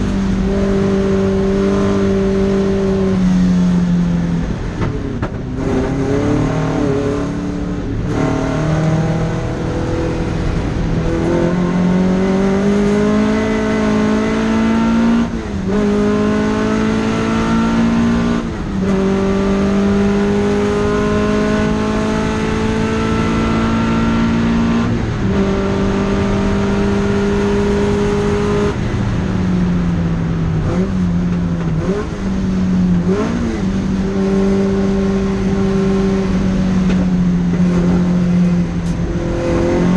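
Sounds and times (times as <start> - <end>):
car engine revving through gears: 0.0 - 28.9, 30.5 - 39.9.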